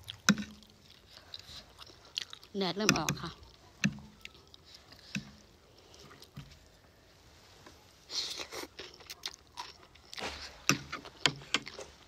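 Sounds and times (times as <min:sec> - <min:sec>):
chewing and mouth clicks: 0:00.0 - 0:06.7, 0:08.2 - 0:12.0.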